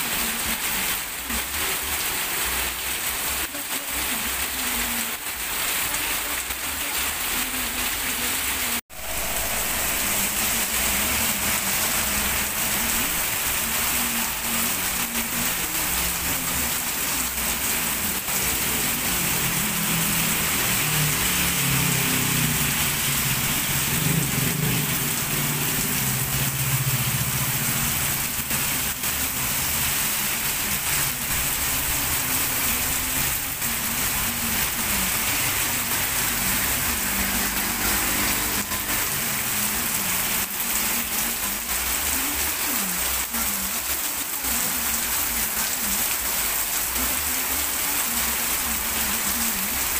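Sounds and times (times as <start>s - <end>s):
heavy rain on wet road: 0.0s - 49.9s
vehicles driving through rain: 0.0s - 49.9s.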